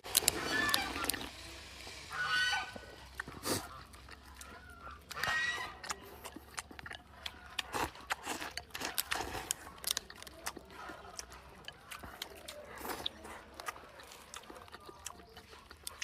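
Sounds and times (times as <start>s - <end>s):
person chewing and biting: 0.0s - 16.0s
wet clicks and crunches: 0.0s - 16.0s.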